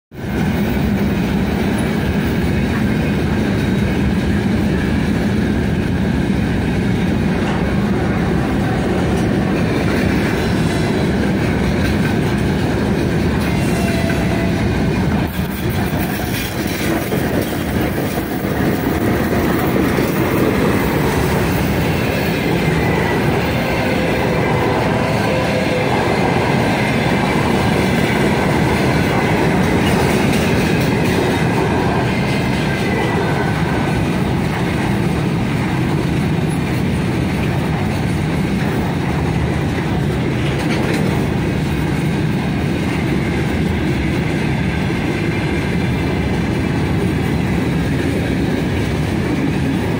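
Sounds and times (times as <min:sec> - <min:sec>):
freight train wheels rumbling on rails: 0:00.1 - 0:49.9.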